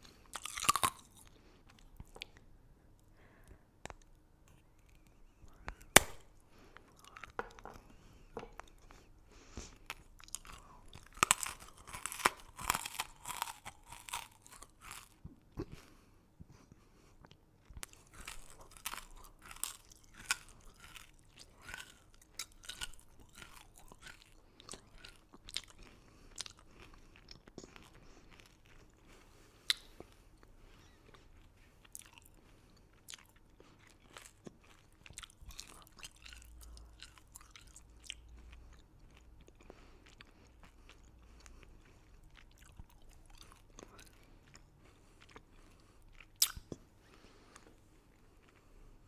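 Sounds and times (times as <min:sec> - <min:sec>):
crunchy chewing: 0:00.0 - 0:02.4, 0:06.8 - 0:16.0, 0:17.2 - 0:48.7.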